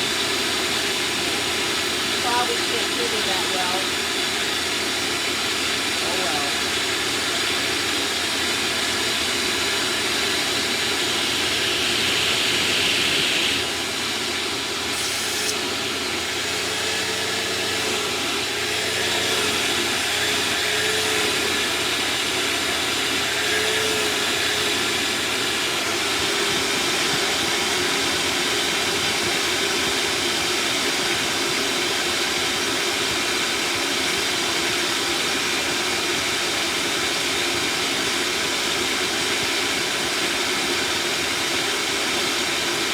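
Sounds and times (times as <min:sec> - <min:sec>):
shop vacuum running: 0:00.0 - 0:42.9.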